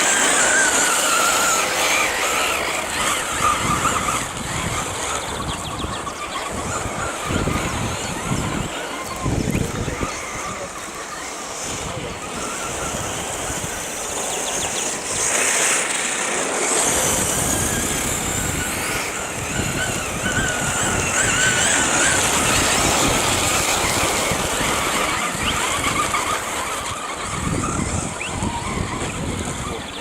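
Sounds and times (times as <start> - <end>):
electric motors whining: 0.0 - 30.0.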